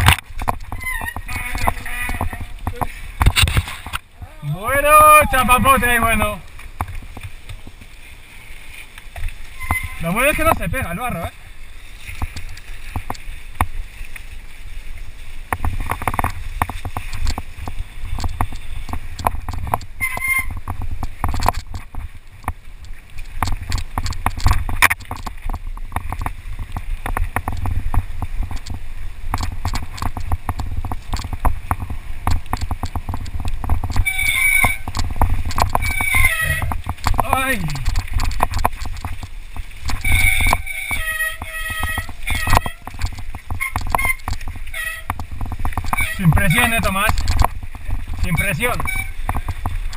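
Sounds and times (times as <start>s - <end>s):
mountain bike rattling over bumps: 0.0s - 49.9s
wind rumble on microphone: 0.0s - 49.9s.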